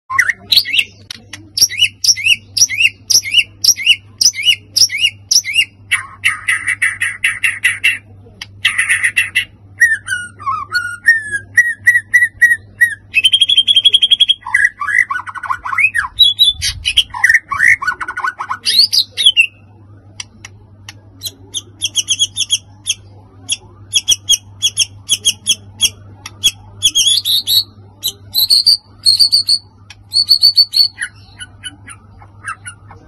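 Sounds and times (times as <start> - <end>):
bird singing varied song: 0.1 - 33.0
faint low hum: 0.1 - 33.0.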